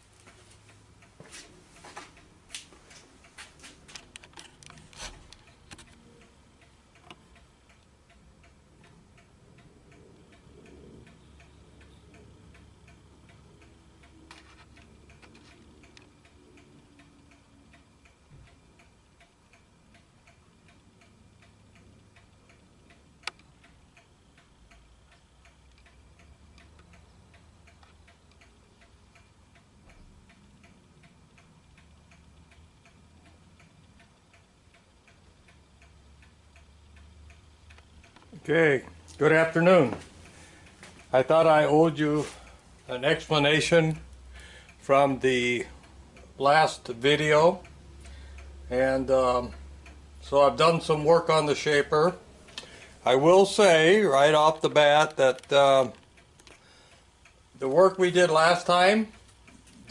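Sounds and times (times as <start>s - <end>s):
faint regular ticking: 0.0s - 59.9s.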